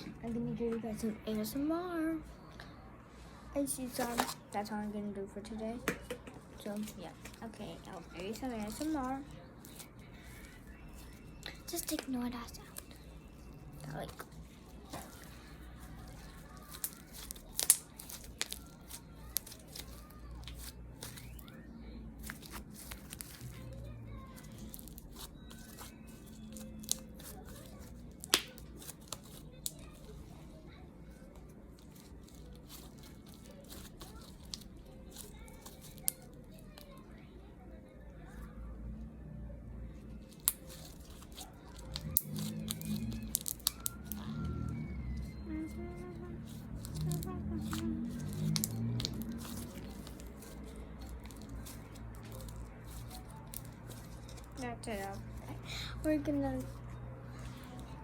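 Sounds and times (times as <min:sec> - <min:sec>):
crackling and crinkling: 0:06.4 - 0:37.2, 0:39.9 - 0:58.0.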